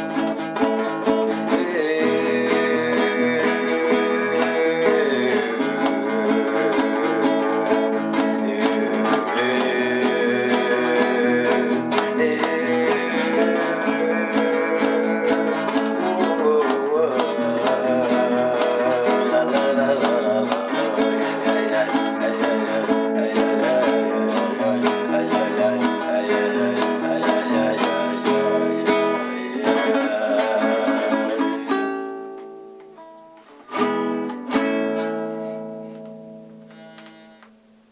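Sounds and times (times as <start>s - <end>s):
plucked guitar music: 0.0s - 37.9s
strummed guitar chords: 0.0s - 37.9s.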